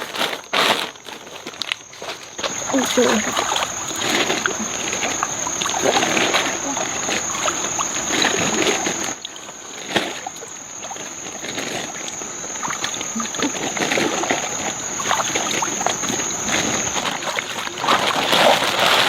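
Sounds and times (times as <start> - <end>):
rustling and light clicks: 0.0 - 19.0
high-pitched insect drone: 1.9 - 19.0.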